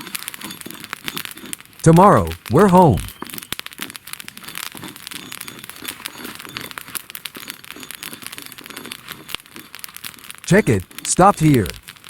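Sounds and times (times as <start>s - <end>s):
dense crackling and rustling: 0.0s - 1.9s, 3.1s - 12.0s.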